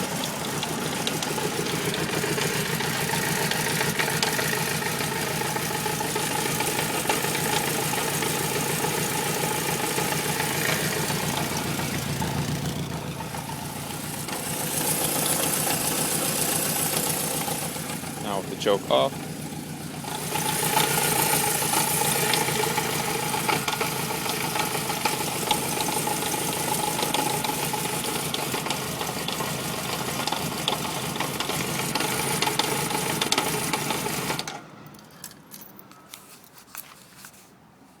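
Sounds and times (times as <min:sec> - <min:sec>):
motorcycle engine running with knock: 0:00.0 - 0:34.5.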